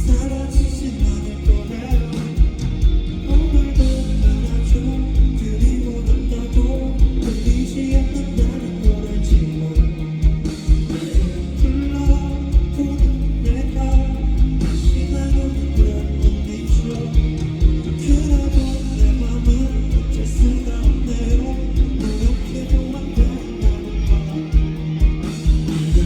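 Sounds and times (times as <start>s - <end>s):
drum beat: 0.0s - 26.0s
guitars: 0.0s - 26.0s
person singing: 3.3s - 10.3s, 10.9s - 25.0s.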